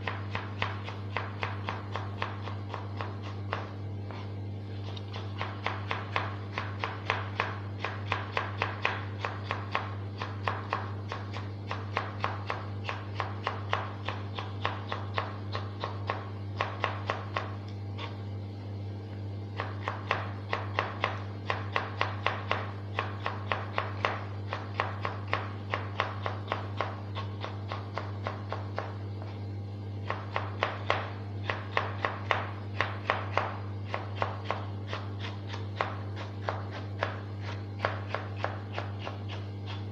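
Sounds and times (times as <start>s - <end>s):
knife chopping on cutting board: 0.0s - 18.2s, 19.6s - 29.4s, 30.0s - 39.9s
low electrical hum: 0.0s - 39.9s.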